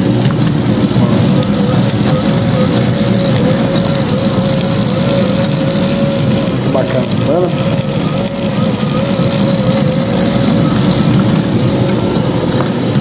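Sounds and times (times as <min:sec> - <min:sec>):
machine mechanical drone and whine: 0:00.0 - 0:13.0.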